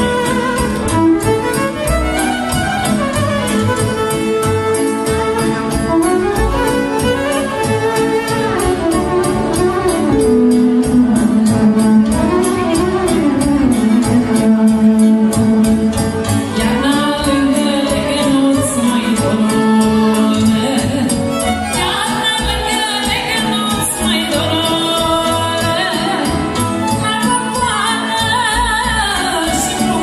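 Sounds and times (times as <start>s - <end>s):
backing band beat: 0.0s - 27.0s
fiddle melody: 0.0s - 30.0s.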